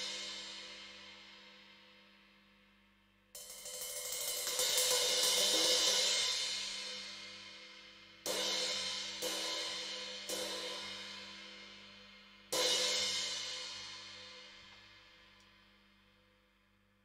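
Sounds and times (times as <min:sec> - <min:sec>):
crash cymbal struck with stick: 0:00.0 - 0:02.3, 0:03.4 - 0:16.2.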